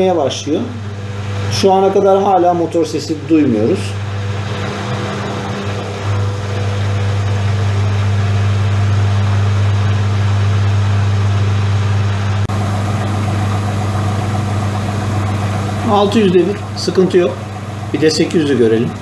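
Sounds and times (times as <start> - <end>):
drain pump low hum: 0.0 - 19.0
washing machine drum spinning: 0.0 - 19.0.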